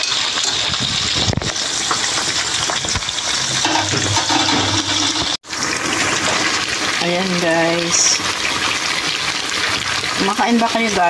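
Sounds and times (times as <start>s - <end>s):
deep-frying sizzle in oil: 0.0s - 11.0s.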